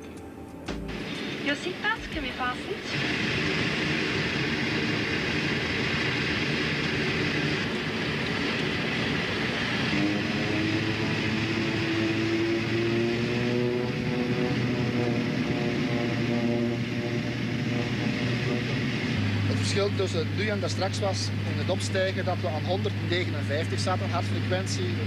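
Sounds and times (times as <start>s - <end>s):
turboprop engines droning: 0.7s - 25.0s.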